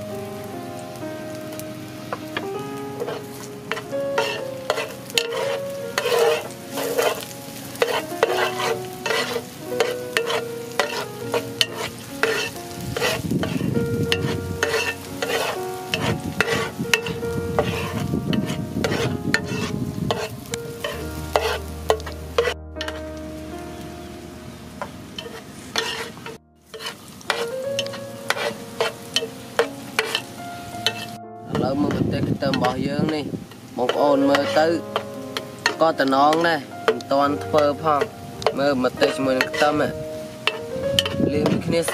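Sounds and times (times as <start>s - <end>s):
food sizzling in oil: 0.0s - 23.2s, 23.8s - 41.9s
metal spoon scraping pan: 3.0s - 23.0s, 25.2s - 32.8s, 33.9s - 37.7s, 38.4s - 39.8s, 40.4s - 41.9s.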